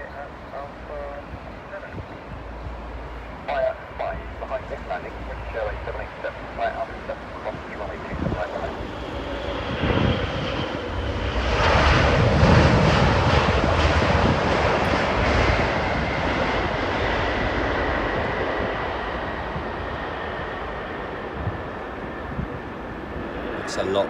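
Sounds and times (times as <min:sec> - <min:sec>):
high engine whine: 0:00.0 - 0:24.0
jet airliner passing: 0:00.0 - 0:24.0.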